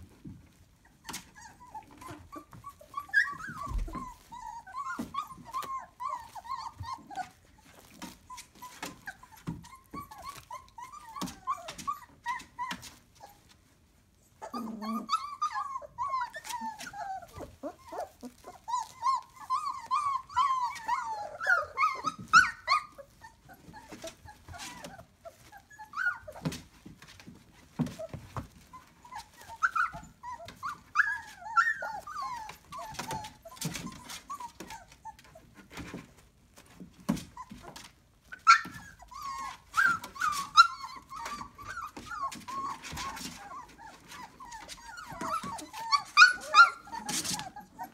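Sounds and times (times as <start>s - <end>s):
puppies crying: 0.5s - 47.9s.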